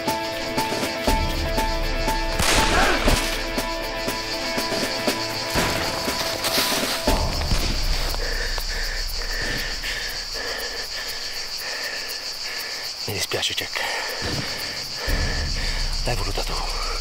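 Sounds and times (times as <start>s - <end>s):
insects high shrill: 0.0s - 17.0s
lower insect chirp: 0.0s - 17.0s.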